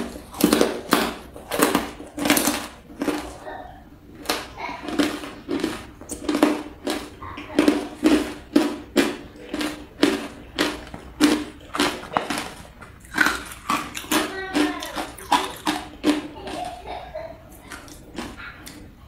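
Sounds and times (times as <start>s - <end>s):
ice crunching between teeth: 0.0s - 3.5s, 4.2s - 16.8s, 17.5s - 18.9s.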